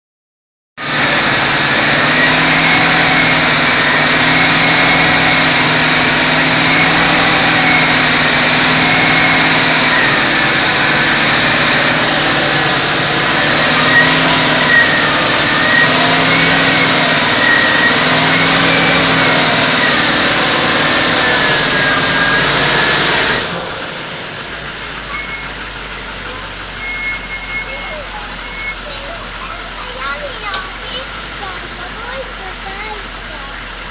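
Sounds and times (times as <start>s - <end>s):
vehicle engine running: 0.8s - 33.9s.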